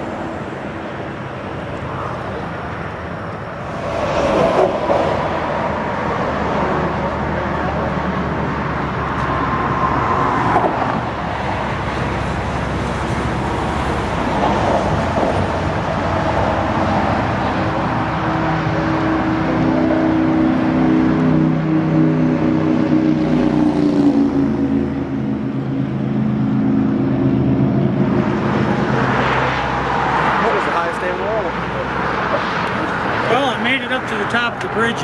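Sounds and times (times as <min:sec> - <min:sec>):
approaching vehicle engine hum: 0:00.0 - 0:35.0
cars passing on highway: 0:00.0 - 0:35.0.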